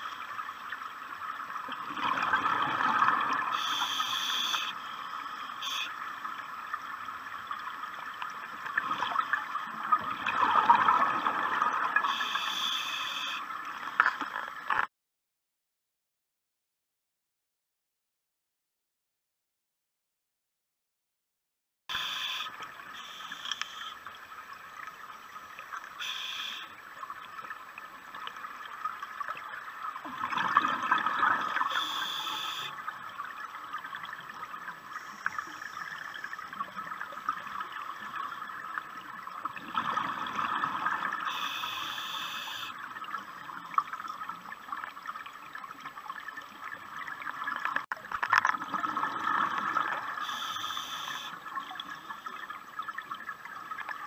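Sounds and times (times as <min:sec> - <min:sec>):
watery background: 0:00.0 - 0:14.9, 0:21.9 - 0:54.0.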